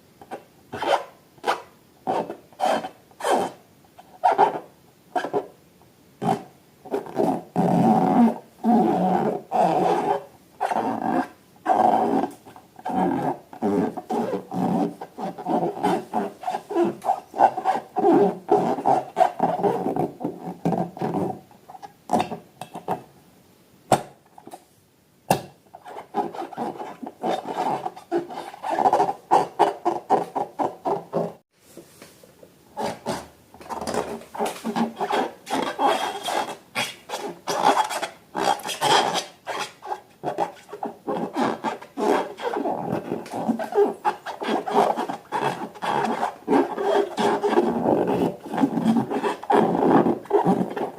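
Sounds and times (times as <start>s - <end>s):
balloons squeaking when rubbed: 0.3s - 3.6s, 4.2s - 5.5s, 6.2s - 21.4s, 25.7s - 31.4s, 32.8s - 50.9s.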